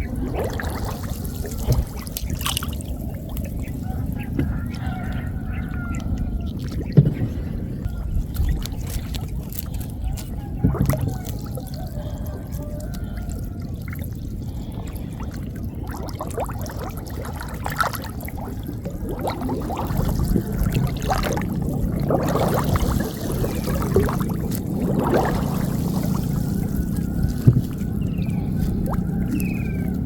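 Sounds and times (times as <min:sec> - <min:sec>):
steady low rumble: 0:00.0 - 0:30.0
water splashing and dripping: 0:00.0 - 0:30.0.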